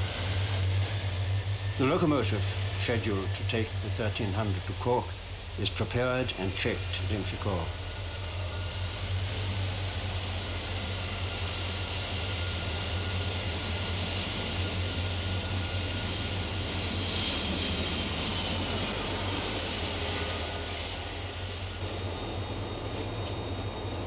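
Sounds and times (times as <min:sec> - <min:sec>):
locomotive engine hum: 0:00.0 - 0:24.0
train wheels squealing: 0:00.0 - 0:24.0.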